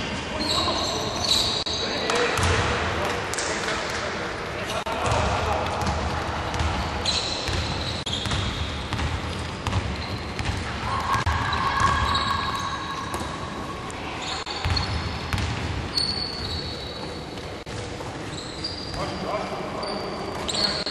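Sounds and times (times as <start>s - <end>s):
sneakers squeaking on floor: 0.0s - 2.6s, 5.0s - 20.9s.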